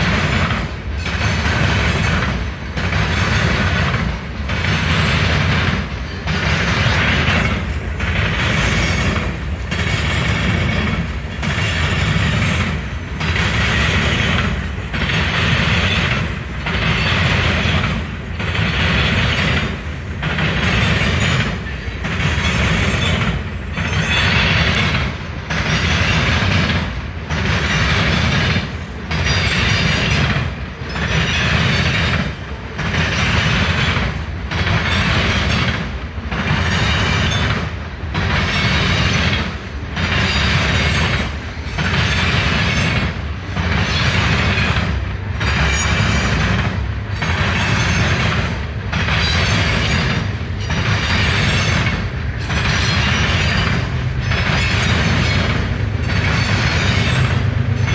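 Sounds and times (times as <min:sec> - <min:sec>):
train passing at speed: 0:00.0 - 0:57.9.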